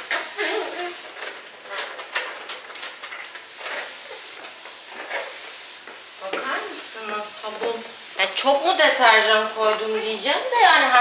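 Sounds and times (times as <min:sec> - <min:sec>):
mop swishing over wet tiles: 0:00.0 - 0:11.0.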